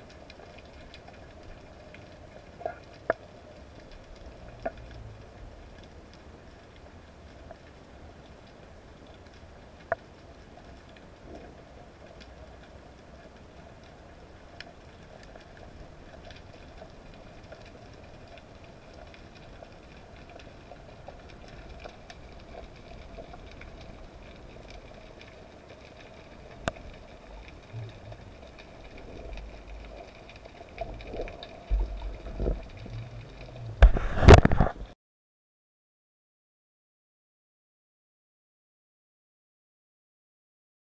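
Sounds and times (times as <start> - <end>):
rushing water: 0.0 - 34.8.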